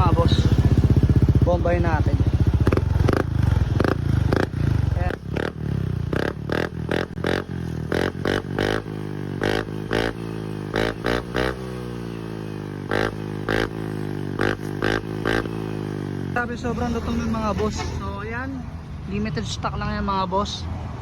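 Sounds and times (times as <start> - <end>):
scooter engine revving: 0.0 - 18.4.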